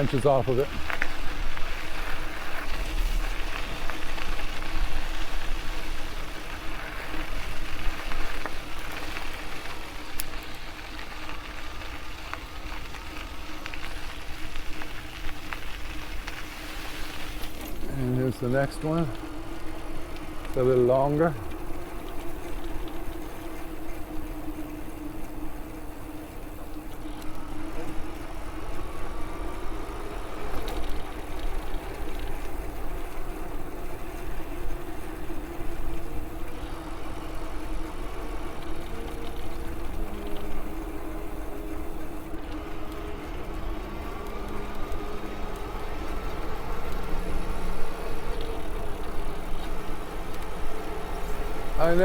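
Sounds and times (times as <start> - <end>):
electric motor whine: 0.0 - 52.0
wind and tyre rumble: 0.0 - 52.0.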